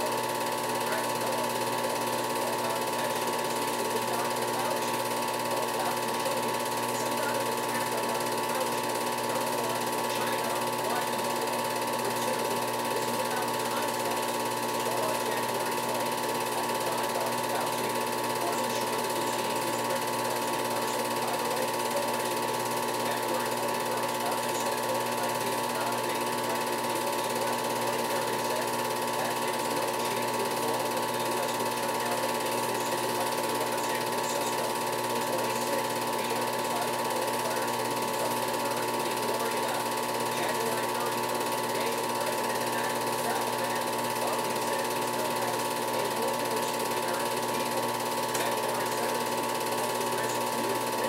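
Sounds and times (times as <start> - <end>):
film projector clatter and whir: 0.0 - 51.0.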